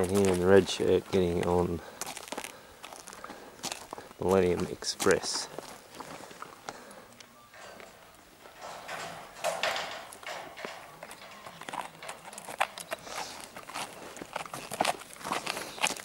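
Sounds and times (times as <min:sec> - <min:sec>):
horse hooves on gravel: 0:00.0 - 0:06.9, 0:07.5 - 0:16.0.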